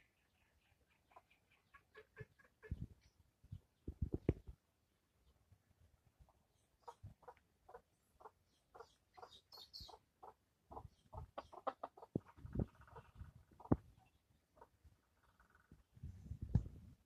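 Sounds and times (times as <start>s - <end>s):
chickens clucking: 0.1s - 4.5s, 6.2s - 15.8s.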